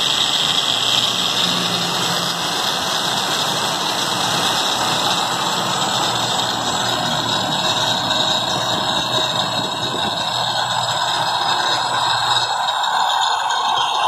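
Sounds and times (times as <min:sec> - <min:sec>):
angle grinder running: 0:00.0 - 0:14.0.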